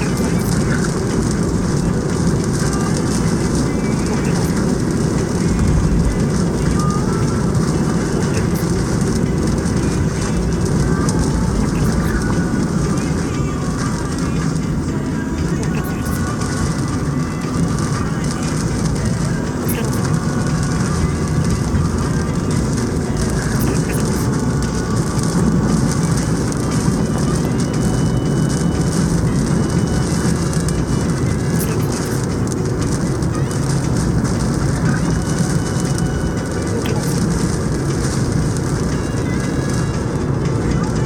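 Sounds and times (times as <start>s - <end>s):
heavy wind and rain: 0.0s - 41.0s.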